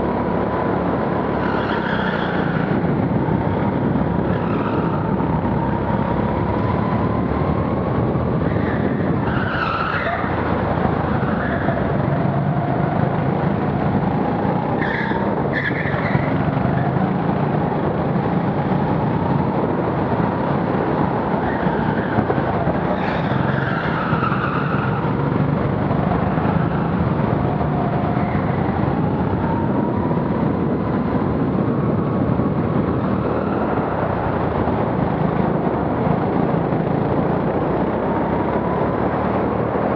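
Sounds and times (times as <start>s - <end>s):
wind rush: 2.2s - 39.9s.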